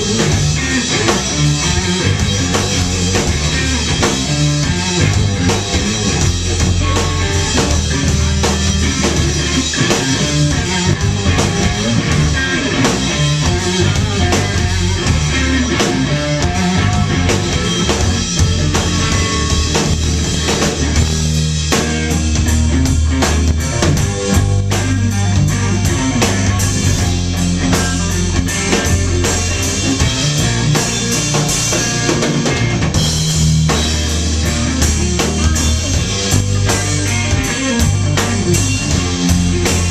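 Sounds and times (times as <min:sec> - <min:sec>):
bass guitar notes: 0:00.0 - 0:39.9
drum beat: 0:00.0 - 0:39.9
electric guitar: 0:00.0 - 0:39.9.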